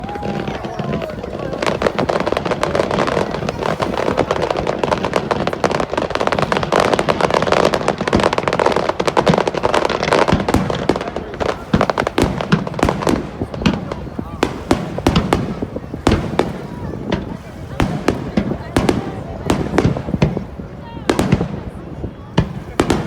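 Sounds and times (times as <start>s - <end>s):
fireworks bursting and crackling: 0.0s - 23.0s
sharp firework bangs: 0.0s - 23.0s.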